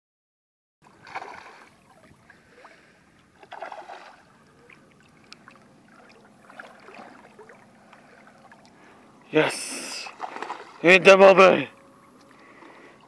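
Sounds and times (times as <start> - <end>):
water splashing: 0.8 - 13.0.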